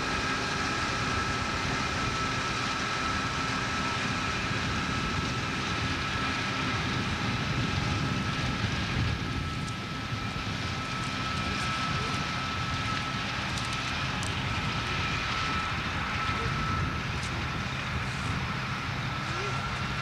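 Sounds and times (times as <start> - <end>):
combine harvester engine drone: 0.0 - 20.0
thin steady machine whine: 0.0 - 20.0.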